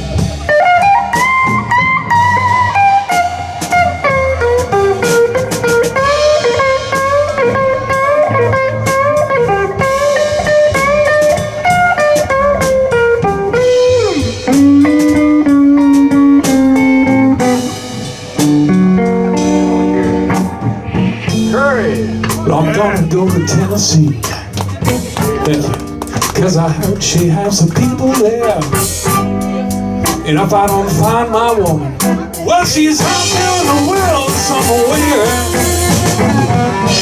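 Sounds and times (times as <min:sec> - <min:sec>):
bass guitar: 0:00.0 - 0:37.0
drums: 0:00.0 - 0:37.0
electric guitar solo: 0:00.5 - 0:23.8, 0:28.7 - 0:30.2, 0:32.0 - 0:37.0.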